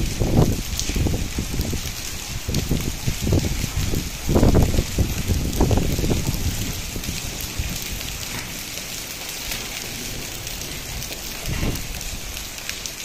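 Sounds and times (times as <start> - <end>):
rain shower falling: 0.0 - 13.0.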